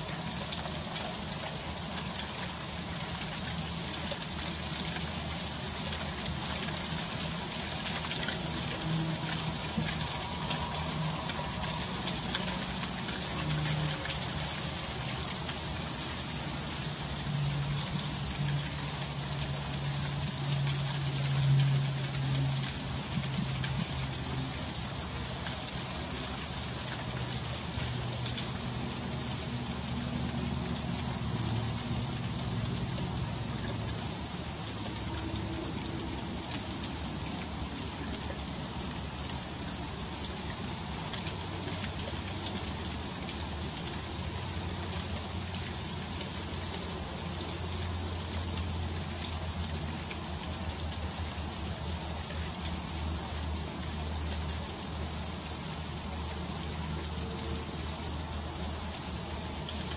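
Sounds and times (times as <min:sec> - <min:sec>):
freezing rain ticking: 0:00.0 - 0:59.9
low wavering hum: 0:00.0 - 0:59.9.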